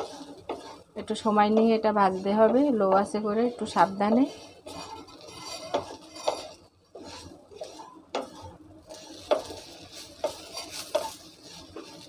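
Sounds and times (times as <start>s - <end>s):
food frying in oil: 0.0s - 12.0s
wooden spatula scraping a pan: 0.0s - 12.0s.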